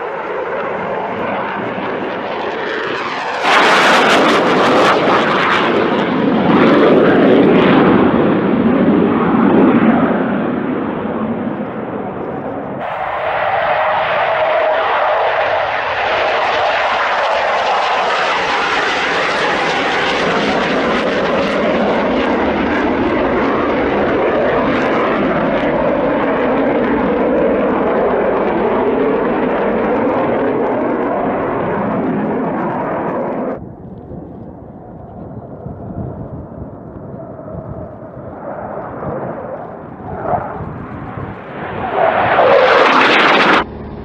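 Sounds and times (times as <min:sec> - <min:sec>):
fighter jet low pass: 0:00.0 - 0:44.0.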